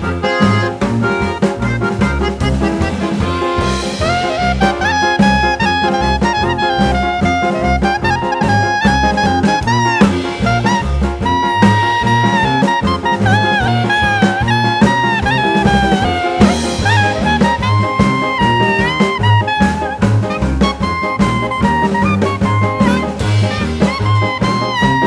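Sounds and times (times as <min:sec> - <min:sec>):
swing jazz with brass lead: 0:00.0 - 0:25.0.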